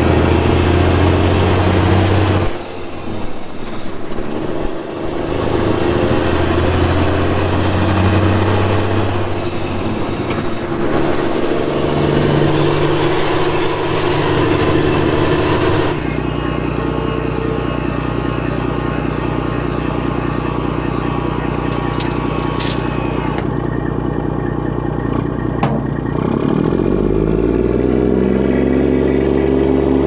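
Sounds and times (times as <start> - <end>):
heavy diesel engine whining: 0.0 - 30.0.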